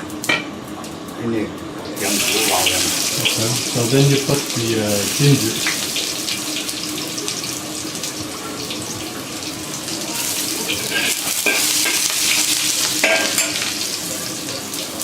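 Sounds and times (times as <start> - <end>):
ginger sizzling in hot oil: 0.0 - 15.0.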